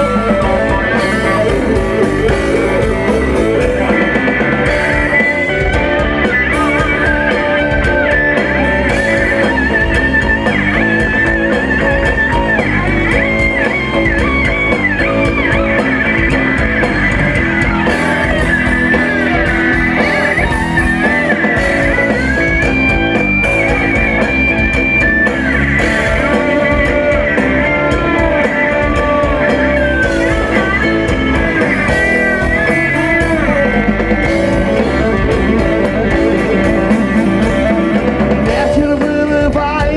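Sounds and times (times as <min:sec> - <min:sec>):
lead guitar bending: 0:00.0 - 0:39.9
rock band playing live: 0:00.0 - 0:39.9.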